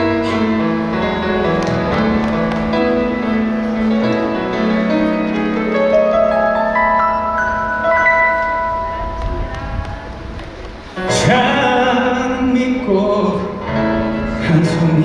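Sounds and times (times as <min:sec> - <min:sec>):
keyboard-led pop music: 0:00.0 - 0:10.0, 0:11.0 - 0:15.0.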